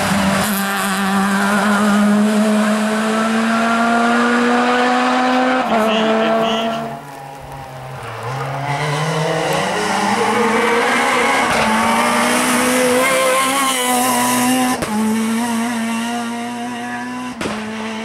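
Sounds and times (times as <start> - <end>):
rally car engine at full throttle: 0.0 - 18.0.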